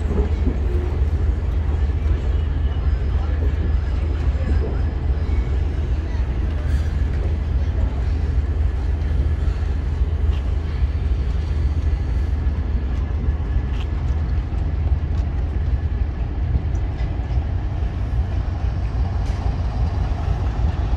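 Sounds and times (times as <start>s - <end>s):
train wheels rumbling on rail: 0.0s - 20.9s.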